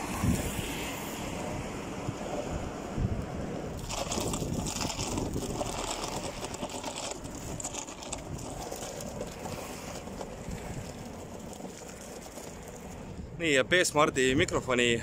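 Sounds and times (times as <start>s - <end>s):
wind noise on microphone: 0.0s - 14.7s.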